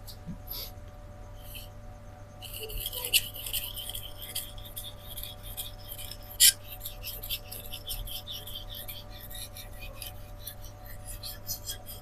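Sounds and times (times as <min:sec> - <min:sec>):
knife rasping on whetstone: 0:01.4 - 0:01.8, 0:02.4 - 0:12.0.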